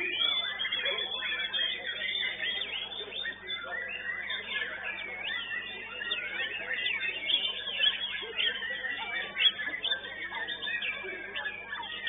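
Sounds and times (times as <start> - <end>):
bird singing whistled phrases: 0.0 - 12.0.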